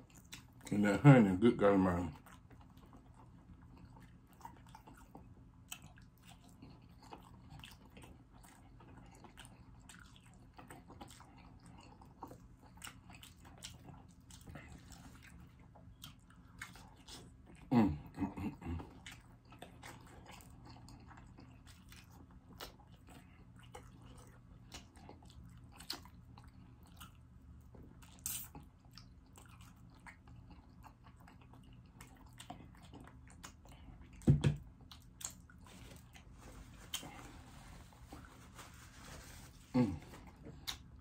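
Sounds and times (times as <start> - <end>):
chewing and biting: 0.0 - 0.7, 2.1 - 38.6, 39.5 - 41.0.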